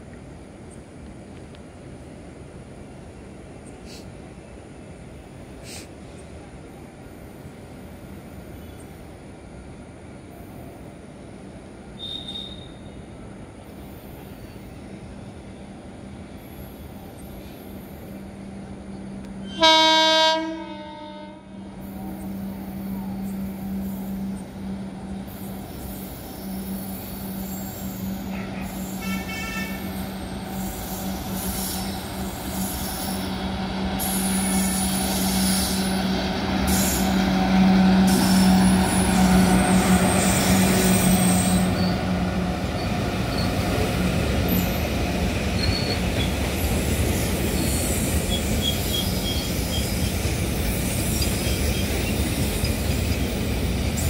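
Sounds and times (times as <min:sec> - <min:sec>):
electric locomotive hum: 0:00.0 - 0:54.0.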